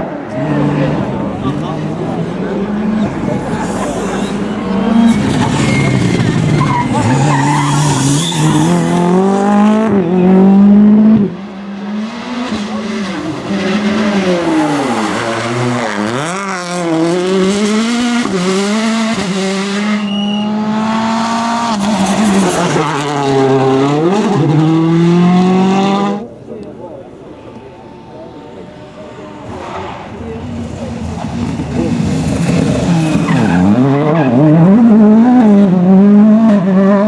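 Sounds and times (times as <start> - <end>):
rally car engines revving: 0.0 - 37.0.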